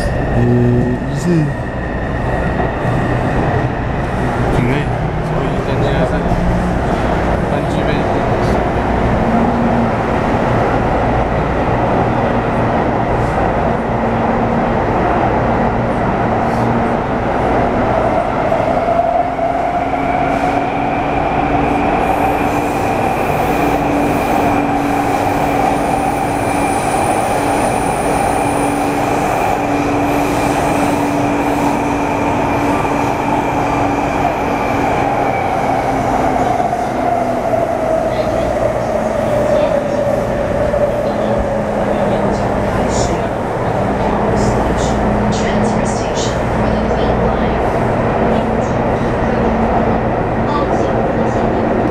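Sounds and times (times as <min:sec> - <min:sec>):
wheel and rail rumble: 0:00.0 - 0:51.9.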